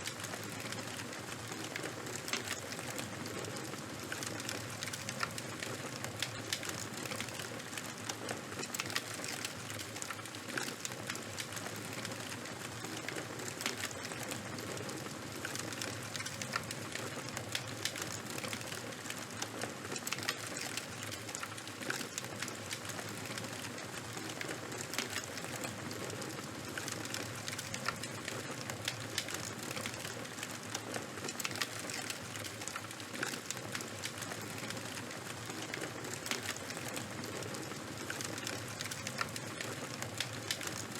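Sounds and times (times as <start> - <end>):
fire crackles and pops: 0.0 - 40.9
wood fire burning with hiss: 0.0 - 40.9.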